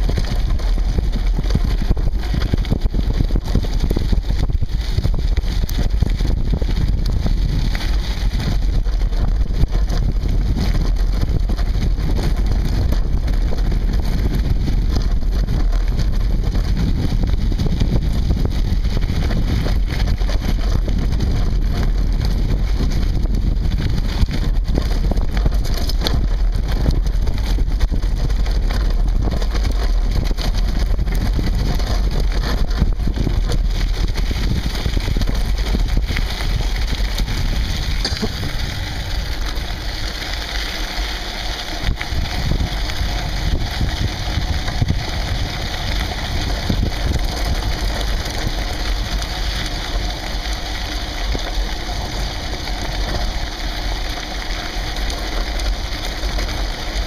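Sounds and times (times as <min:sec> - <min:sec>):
tyres crunching over gravel: 0:00.0 - 0:57.0
wind rumble on microphone: 0:00.0 - 0:57.0.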